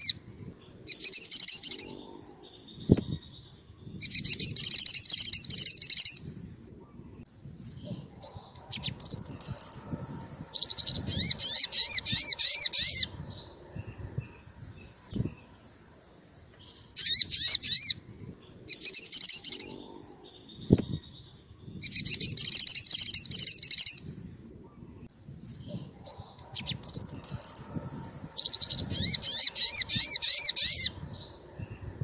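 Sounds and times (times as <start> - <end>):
bird singing high trills: 0.0 - 24.4, 28.3 - 32.0.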